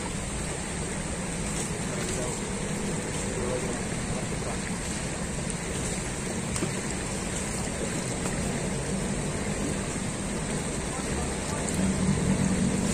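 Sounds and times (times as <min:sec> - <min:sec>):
fast-flowing river rushing: 0:00.0 - 0:12.9.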